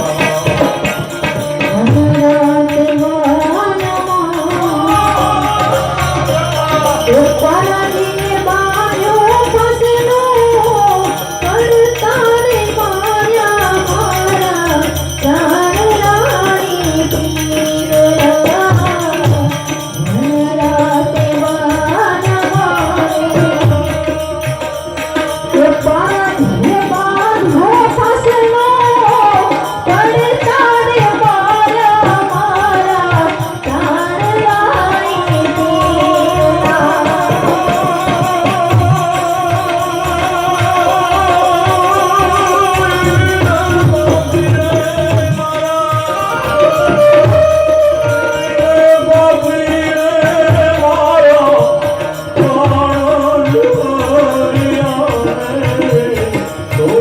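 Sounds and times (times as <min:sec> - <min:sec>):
person singing ornamented melody: 0:00.0 - 0:57.0
tabla rhythm: 0:00.0 - 0:57.0.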